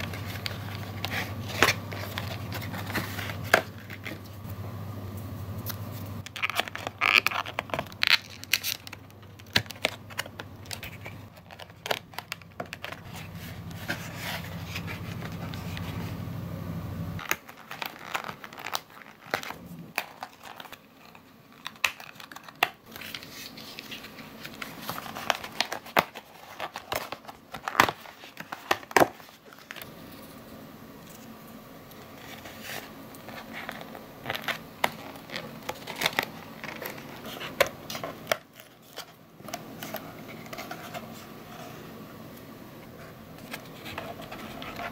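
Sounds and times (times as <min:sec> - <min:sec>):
cardboard crinkling and tearing: 0:00.0 - 0:04.4, 0:06.2 - 0:16.2, 0:17.2 - 0:29.9, 0:32.0 - 0:41.8, 0:43.4 - 0:44.9.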